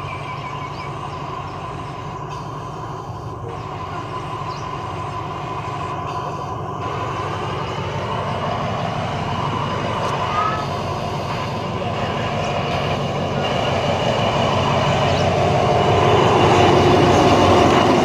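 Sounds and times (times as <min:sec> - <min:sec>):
diesel locomotive engine running: 0:00.0 - 0:18.0
thin steady whine: 0:00.0 - 0:18.0.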